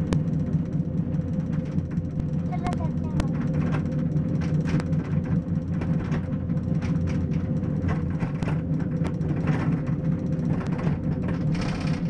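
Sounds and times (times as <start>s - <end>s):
cable car cabin rumble and hum: 0.0s - 12.0s
light clicks and rattles: 0.1s - 12.0s.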